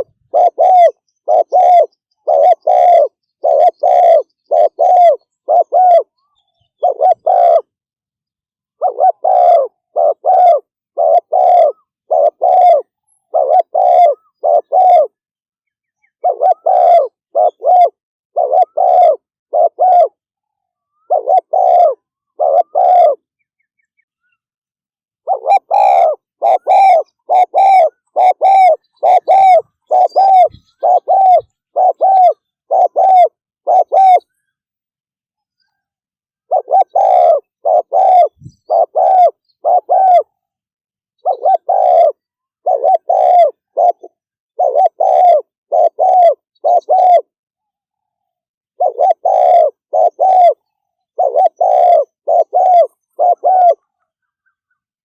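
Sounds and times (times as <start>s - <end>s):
dove cooing: 0.0s - 7.8s, 8.7s - 15.2s, 16.0s - 20.2s, 20.8s - 23.3s, 25.2s - 34.4s, 35.6s - 40.5s, 41.2s - 47.3s, 48.8s - 54.8s.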